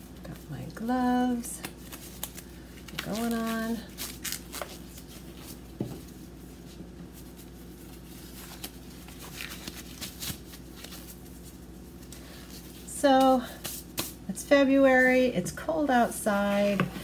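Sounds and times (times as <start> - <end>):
steady low hum: 0.0 - 17.0
disposable gloves rustling: 1.3 - 15.3.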